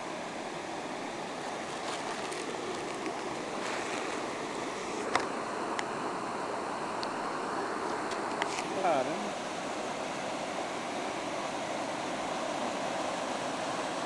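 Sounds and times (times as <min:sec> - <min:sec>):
waterfall rushing: 0:00.2 - 0:14.0.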